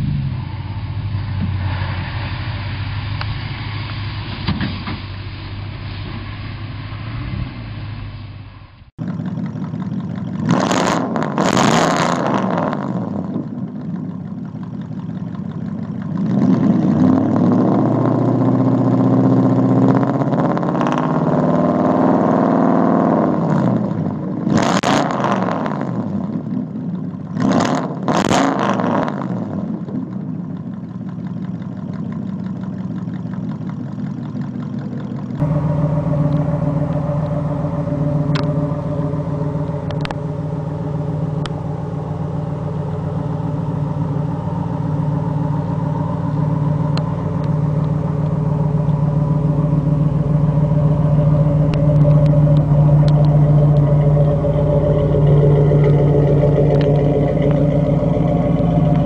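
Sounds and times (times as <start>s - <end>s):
engine idling and revving: 0.0s - 59.0s
pickup engine running: 0.0s - 59.0s.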